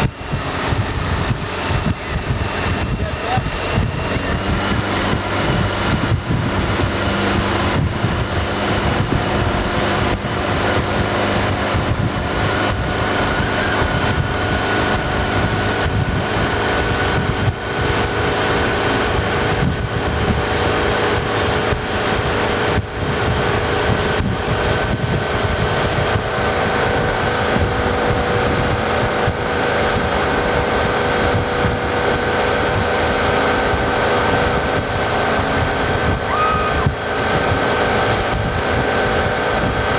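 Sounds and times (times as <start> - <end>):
motorboat engine running: 0.0 - 39.9
wind buffeting microphone: 0.0 - 39.9.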